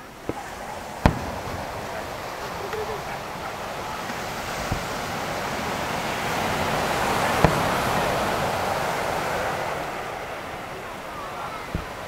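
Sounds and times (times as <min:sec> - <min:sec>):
firework bang: 0:00.0 - 0:10.3, 0:11.5 - 0:12.0
surf washing onto beach: 0:00.0 - 0:12.0.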